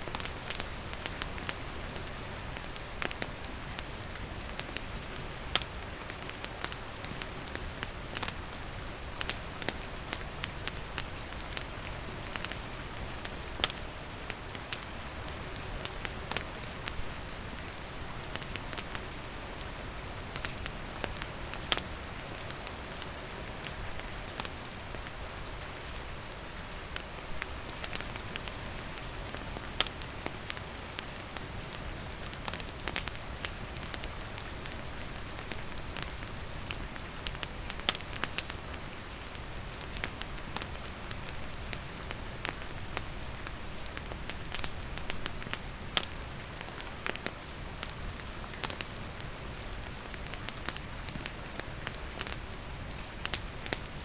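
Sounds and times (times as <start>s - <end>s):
campfire crackling: 0.0s - 54.0s
rain falling: 0.0s - 54.0s.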